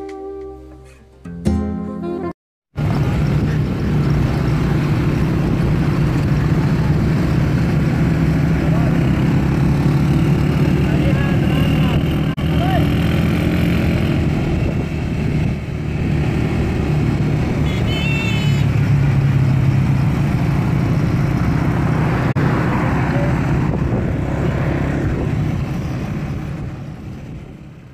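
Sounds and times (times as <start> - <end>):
motorcycle engines running: 2.8 - 27.9.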